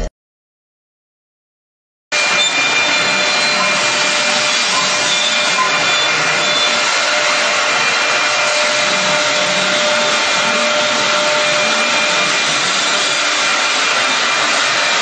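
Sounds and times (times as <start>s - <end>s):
wood cutting noise: 2.1s - 15.0s
router motor whine: 2.2s - 15.0s.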